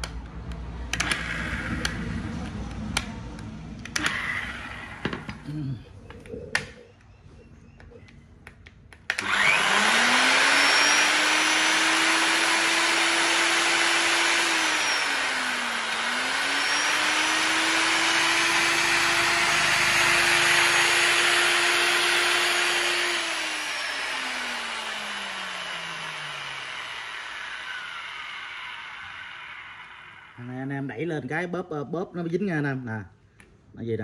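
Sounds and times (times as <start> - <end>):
angle grinder whining: 0.9 - 3.0, 3.8 - 7.0, 9.0 - 31.0.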